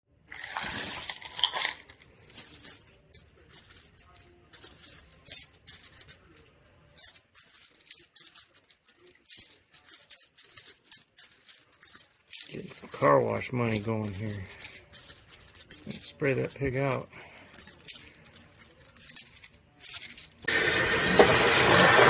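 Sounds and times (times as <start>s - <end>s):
coins clinking: 0.3s - 20.5s.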